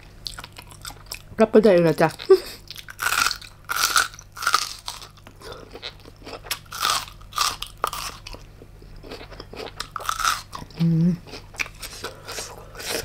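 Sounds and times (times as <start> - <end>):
person chewing crunchy bites: 0.2 - 1.3, 2.6 - 13.0.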